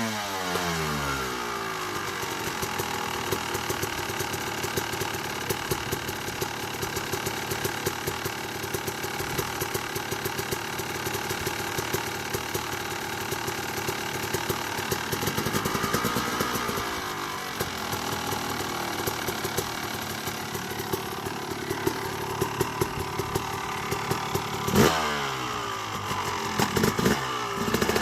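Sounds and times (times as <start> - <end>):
two-stroke engine idling with pops: 0.0 - 28.0.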